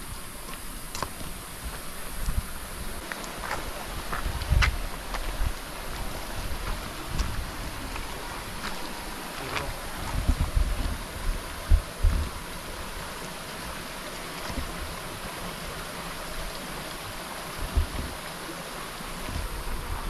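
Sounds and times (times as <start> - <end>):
stream running: 0.0 - 20.0.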